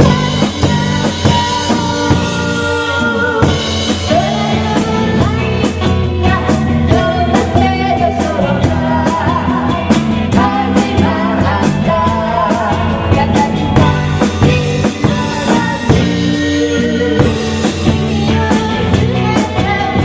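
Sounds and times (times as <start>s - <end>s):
drum kit beat: 0.0s - 20.0s
person singing: 0.0s - 20.0s
rock band playing: 0.0s - 20.0s.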